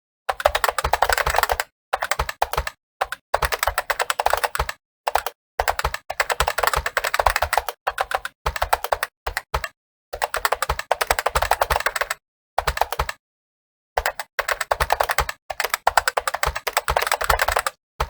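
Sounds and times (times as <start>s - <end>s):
fast typing on keyboard: 0.3s - 13.2s, 14.0s - 17.8s.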